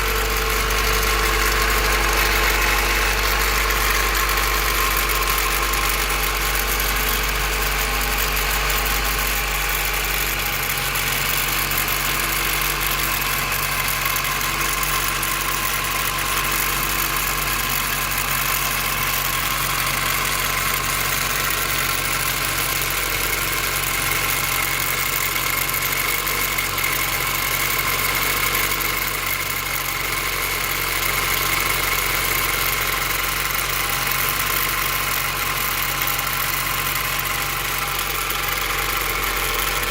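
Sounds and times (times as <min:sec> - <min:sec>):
car engine idling: 0:00.0 - 0:39.9
engine rattle: 0:00.0 - 0:39.9.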